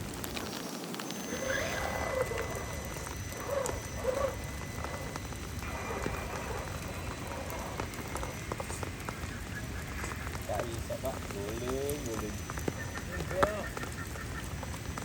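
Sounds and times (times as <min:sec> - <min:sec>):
steady rain falling: 0:00.0 - 0:15.0
rising and falling calls: 0:01.1 - 0:15.0.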